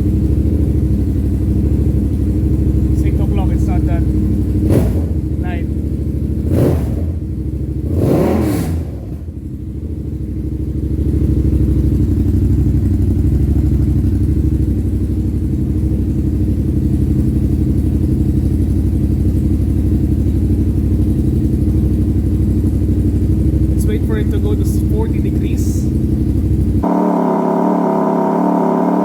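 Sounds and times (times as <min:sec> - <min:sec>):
motorcycle engine idling: 0:00.0 - 0:29.0
motorcycle engine revving: 0:00.0 - 0:29.0.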